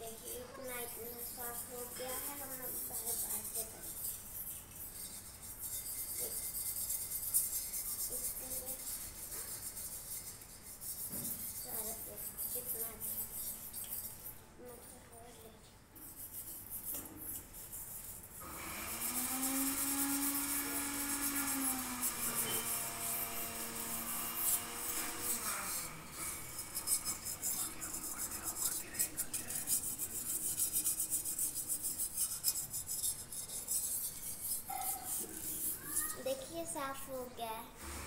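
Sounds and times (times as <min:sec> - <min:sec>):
metal scrubber scouring copper: 0:00.2 - 0:14.2, 0:17.3 - 0:37.0.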